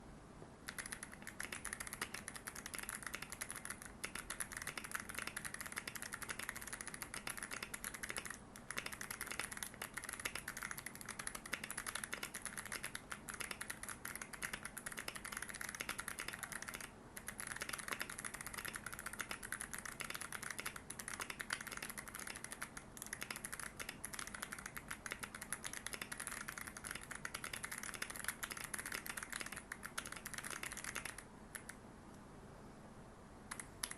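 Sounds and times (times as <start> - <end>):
fast typing on mechanical keyboard: 0.7 - 31.8.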